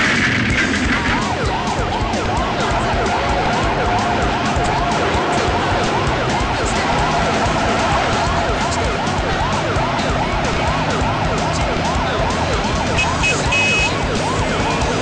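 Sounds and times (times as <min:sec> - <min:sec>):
siren yelping: 0:00.7 - 0:15.0.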